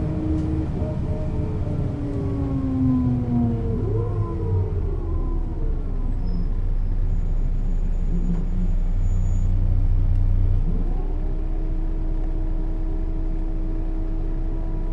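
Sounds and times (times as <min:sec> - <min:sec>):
bus diesel engine humming: 0:00.0 - 0:14.9.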